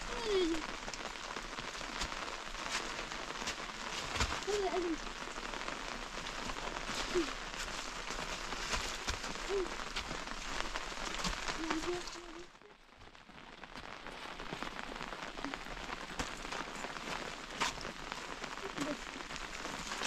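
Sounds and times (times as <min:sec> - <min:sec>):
rain falling on rocks: 0:00.0 - 0:20.0.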